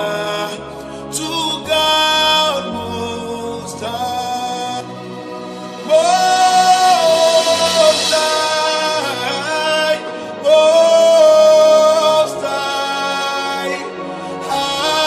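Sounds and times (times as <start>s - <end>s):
person singing worship song: 0.0s - 15.0s
soft musical accompaniment: 0.0s - 15.0s.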